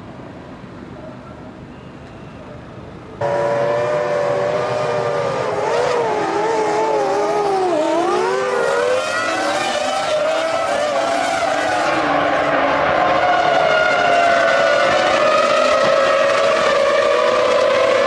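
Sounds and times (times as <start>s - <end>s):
racing car engines at high revs: 3.2s - 18.0s.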